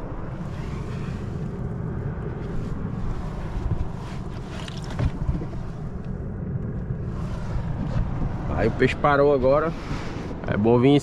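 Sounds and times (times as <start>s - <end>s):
sea washing around boat: 0.0s - 10.4s
wind buffeting microphone: 0.0s - 11.0s.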